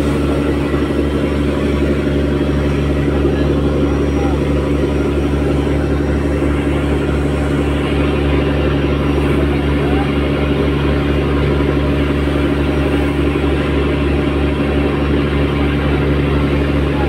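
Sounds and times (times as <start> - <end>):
diesel boat engine droning: 0.0 - 17.0.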